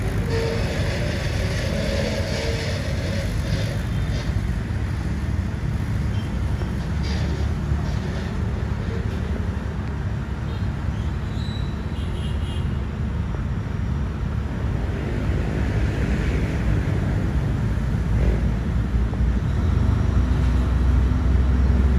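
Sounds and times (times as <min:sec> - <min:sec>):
diesel excavator engine rumbling: 0:00.0 - 0:11.6, 0:13.3 - 0:21.9.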